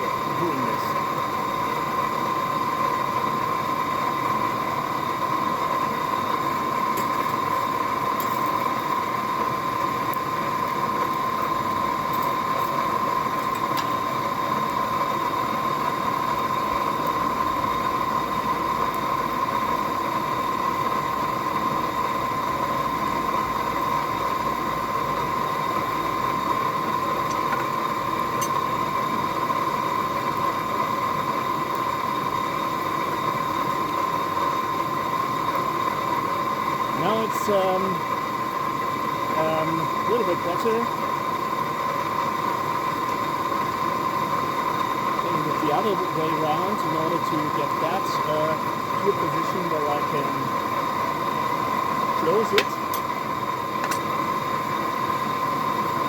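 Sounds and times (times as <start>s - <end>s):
air blower rushing hum: 0.0s - 32.9s, 33.5s - 56.0s.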